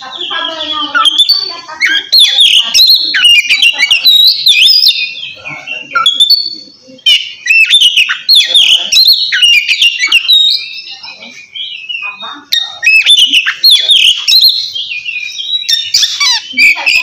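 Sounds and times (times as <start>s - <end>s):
bird singing whistles and trills: 0.0s - 17.0s.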